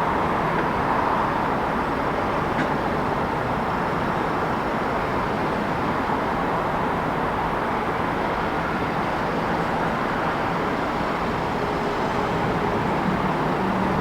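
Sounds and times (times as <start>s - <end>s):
city traffic: 0.0s - 14.0s.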